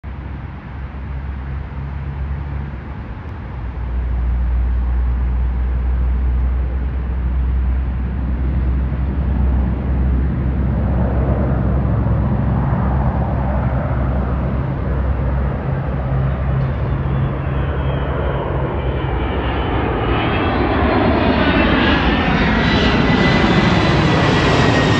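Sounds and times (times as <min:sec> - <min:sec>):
low rumble: 0:00.0 - 0:24.9
jet aircraft approaching: 0:00.1 - 0:24.9.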